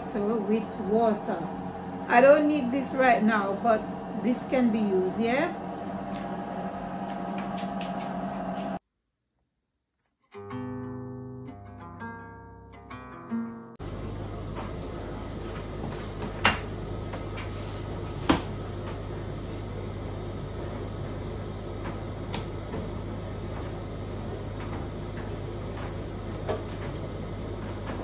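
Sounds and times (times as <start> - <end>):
washing machine humming: 0.0 - 8.8, 13.8 - 28.0.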